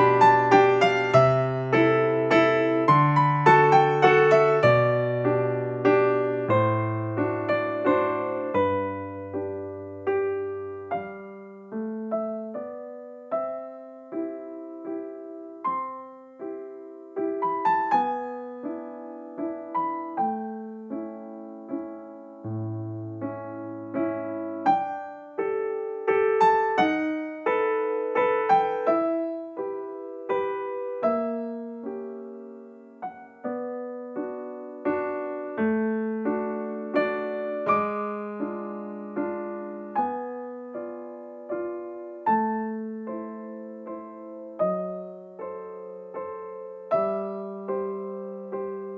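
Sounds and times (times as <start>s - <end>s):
gentle piano music: 0.0s - 48.9s.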